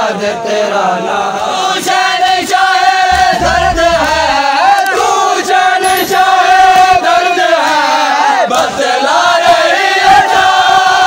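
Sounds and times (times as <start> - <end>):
crowd of men chanting: 0.0 - 11.0.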